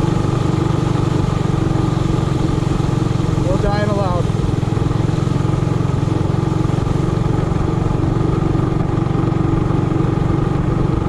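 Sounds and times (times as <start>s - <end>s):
minibike engine running: 0.0s - 11.0s.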